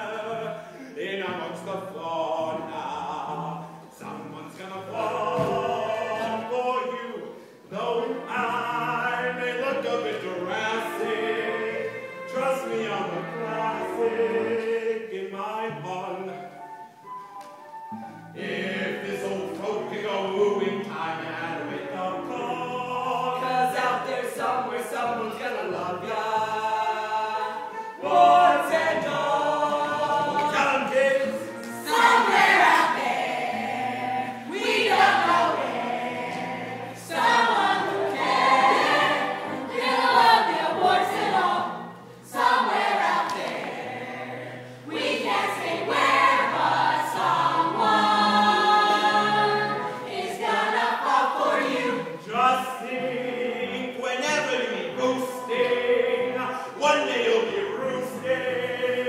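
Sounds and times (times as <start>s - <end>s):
chorus singing: 0.0s - 17.0s, 17.9s - 59.0s
backing music: 0.0s - 59.0s.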